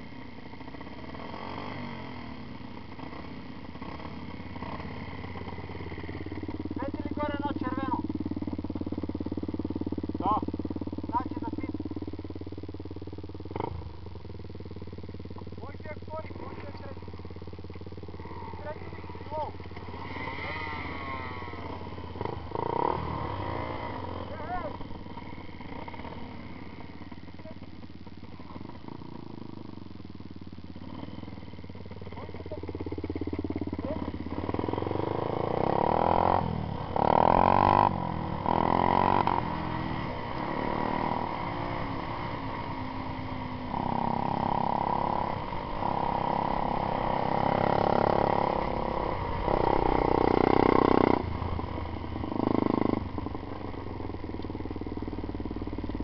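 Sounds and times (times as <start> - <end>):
off-road motorcycle engine revving: 0.0 - 56.0.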